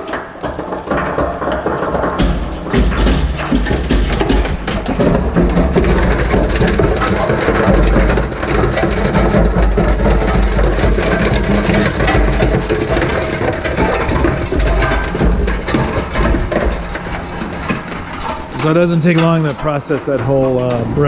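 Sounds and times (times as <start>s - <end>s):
plastic crackling and crunching: 0.0s - 21.0s
shredder rumble and hum: 0.0s - 21.0s.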